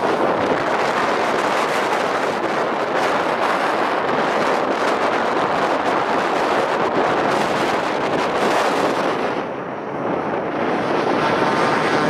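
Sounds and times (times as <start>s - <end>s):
hovercraft engine drone: 0.0s - 12.0s
wind buffeting microphone: 0.0s - 12.0s.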